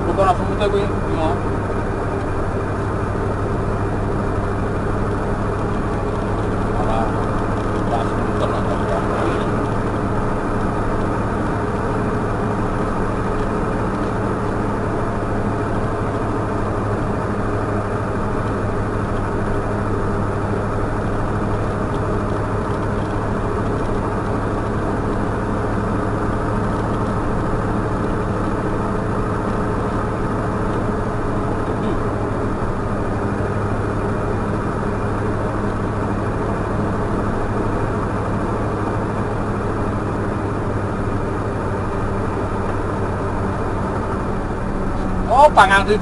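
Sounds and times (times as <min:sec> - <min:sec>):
road noise: 0:00.0 - 0:46.0
truck engine running: 0:00.0 - 0:46.0.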